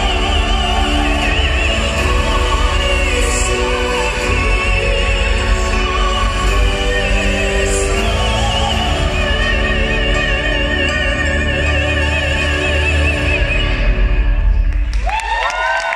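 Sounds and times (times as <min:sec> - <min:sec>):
sustained accompaniment: 0:00.0 - 0:14.8
operatic soprano singing: 0:00.0 - 0:15.0.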